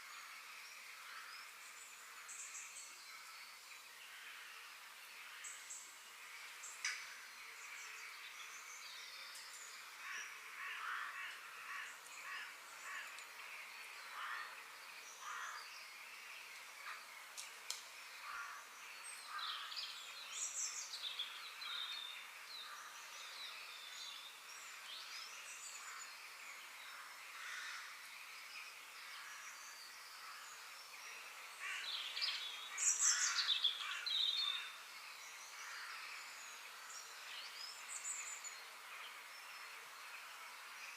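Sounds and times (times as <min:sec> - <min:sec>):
background hiss: 0:00.0 - 0:40.9
birds chirping: 0:00.0 - 0:40.9.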